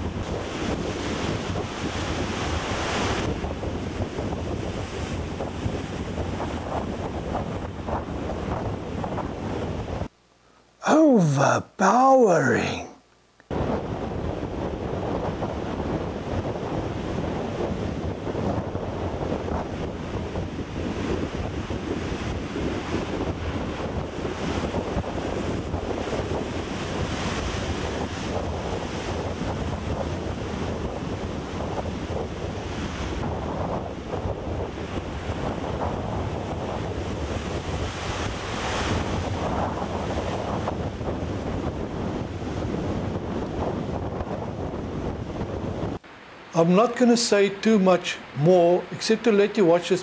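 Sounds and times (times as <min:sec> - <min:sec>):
wind on microphone: 0:00.0 - 0:10.1, 0:13.5 - 0:46.0.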